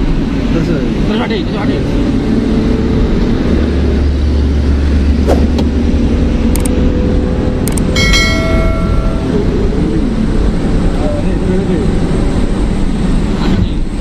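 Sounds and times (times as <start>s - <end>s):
vehicle road and engine noise: 0.0s - 14.0s.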